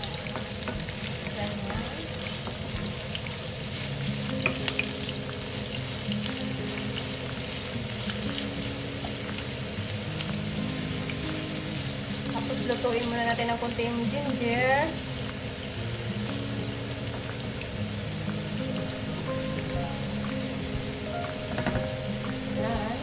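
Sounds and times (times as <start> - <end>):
oil sizzling in a frying pan: 0.0 - 23.0.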